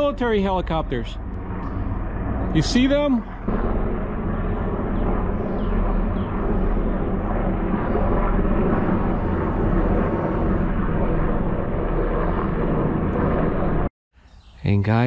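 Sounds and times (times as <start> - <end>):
helicopter rotors and engines droning: 0.0 - 13.9.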